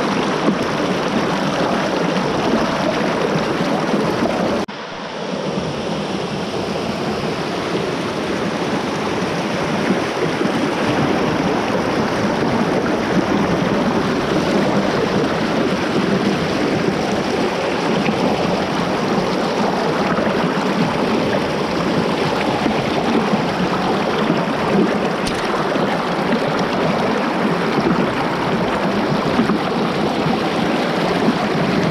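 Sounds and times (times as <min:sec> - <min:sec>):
creek water rushing over rocks: 0:00.0 - 0:31.9.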